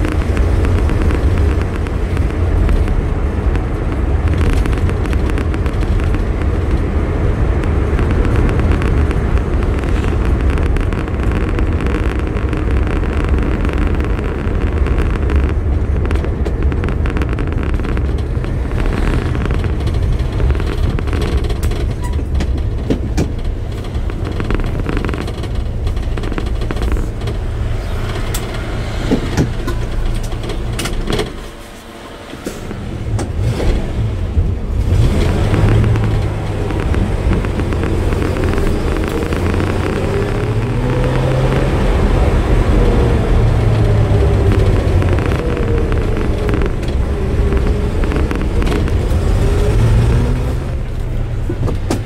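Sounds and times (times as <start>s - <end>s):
car engine running: 0.0s - 52.0s
road noise: 0.0s - 52.0s.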